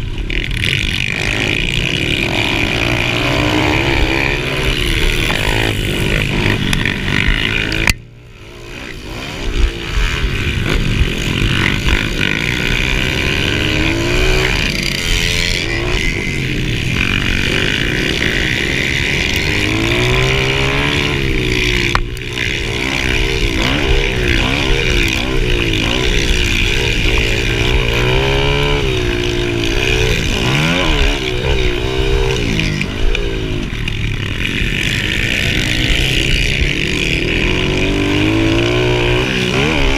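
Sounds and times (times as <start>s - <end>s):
dirt bike engine revving: 0.0s - 39.9s
other mini bikes running: 0.0s - 39.9s.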